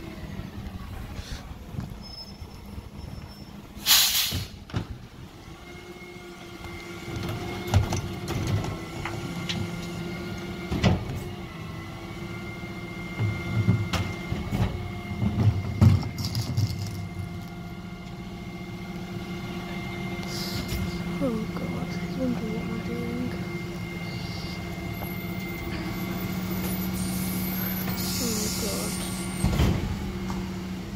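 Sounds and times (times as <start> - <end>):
truck engine running: 0.0 - 30.9
bin lift mechanical whine: 4.4 - 30.9.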